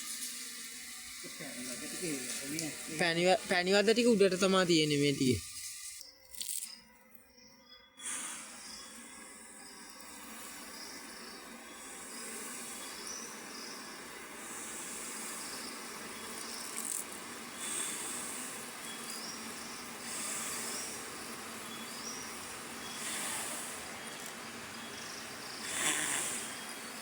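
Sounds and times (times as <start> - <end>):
background hiss: 0.0 - 6.8, 8.0 - 27.0
insect chirps: 0.0 - 27.0
insects trilling: 0.0 - 27.0.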